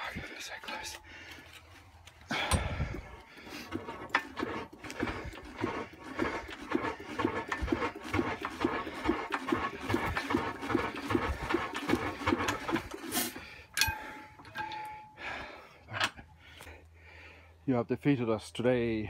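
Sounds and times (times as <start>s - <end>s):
engine cranked by hand: 0.7s - 16.7s.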